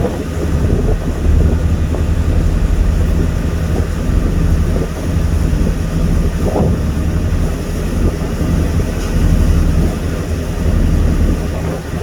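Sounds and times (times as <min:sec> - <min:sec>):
ship engine droning: 0:00.0 - 0:12.0.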